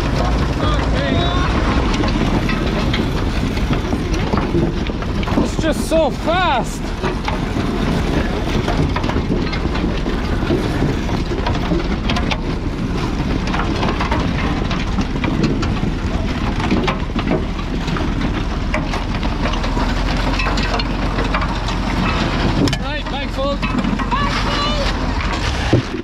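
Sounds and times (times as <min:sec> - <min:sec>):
harvester mechanical clatter: 0:00.0 - 0:26.0
tractor engine hum: 0:00.0 - 0:26.0.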